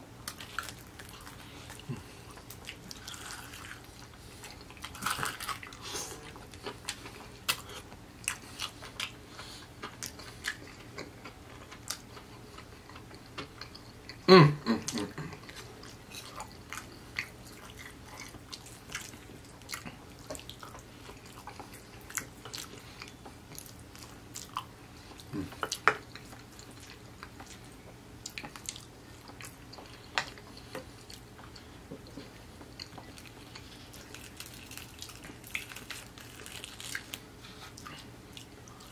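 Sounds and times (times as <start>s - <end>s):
chewing crunchy food: 0.2s - 38.9s.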